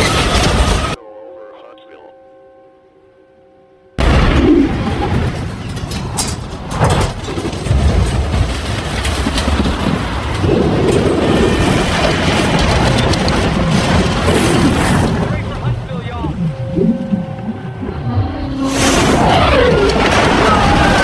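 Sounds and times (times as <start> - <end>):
loud rumbling roar: 4.0 - 21.0.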